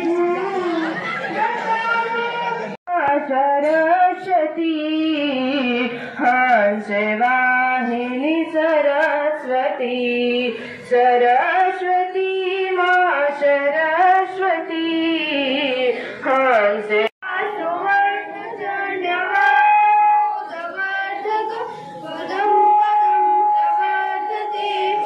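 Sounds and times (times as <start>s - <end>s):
girls singing unaccompanied: 0.0s - 25.0s.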